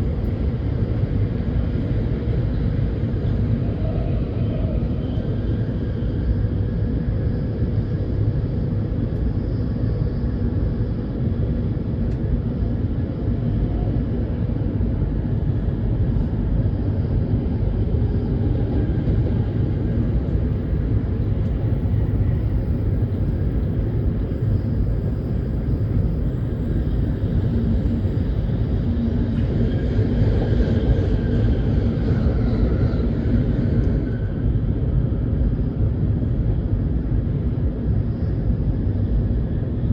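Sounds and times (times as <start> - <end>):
high-speed train rumbling: 0.0 - 39.9.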